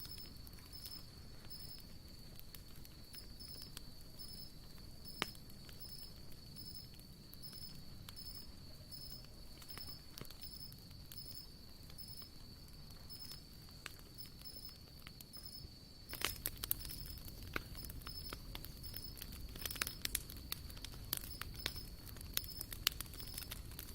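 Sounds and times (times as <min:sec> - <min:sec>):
campfire crackling and popping: 0:00.0 - 0:23.9
insects chirping: 0:00.0 - 0:23.9.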